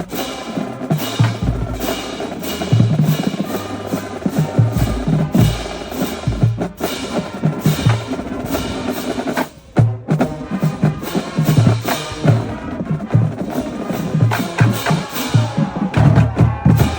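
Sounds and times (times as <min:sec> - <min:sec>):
marching band playing: 0:00.0 - 0:16.9
bass drum beat: 0:01.1 - 0:03.6, 0:04.2 - 0:16.9.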